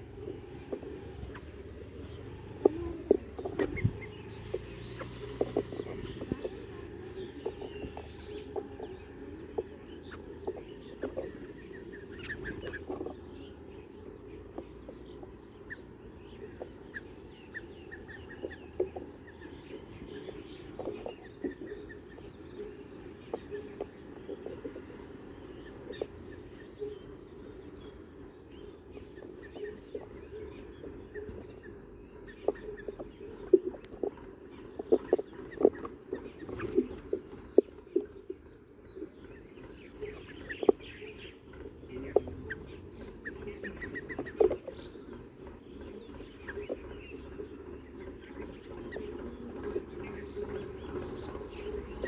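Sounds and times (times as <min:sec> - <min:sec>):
bird chirps: 0:00.0 - 0:52.0
clucking chatter: 0:00.0 - 0:52.0.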